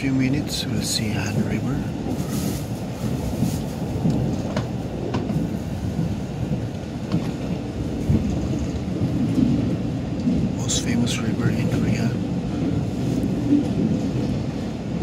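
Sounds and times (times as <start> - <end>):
train rumbling from inside carriage: 0.0 - 15.0.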